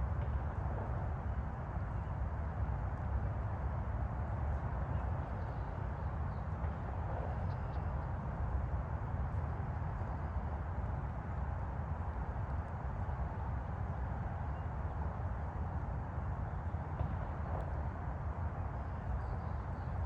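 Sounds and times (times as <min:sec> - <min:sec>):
distant highway traffic: 0:00.0 - 0:20.0.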